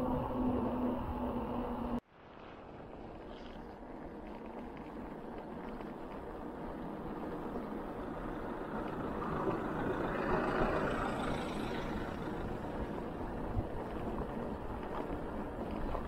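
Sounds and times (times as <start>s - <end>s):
bicycle tyre noise: 0.1s - 16.0s.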